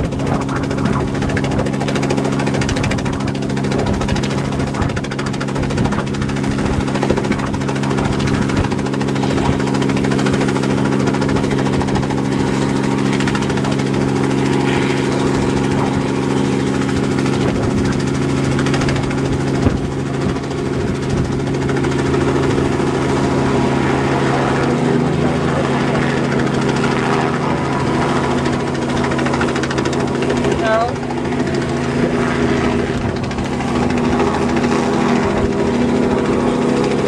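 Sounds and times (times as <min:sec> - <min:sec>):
helicopter engine and rotor drone: 0:00.0 - 0:37.0.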